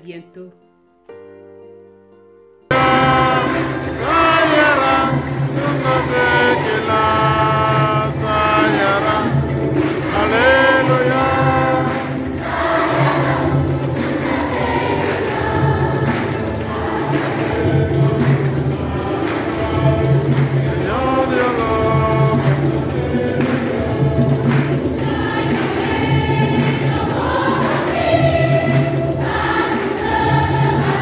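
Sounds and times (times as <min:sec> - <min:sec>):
instrumental accompaniment: 0:00.0 - 0:31.0
choir singing a hymn: 0:02.7 - 0:31.0.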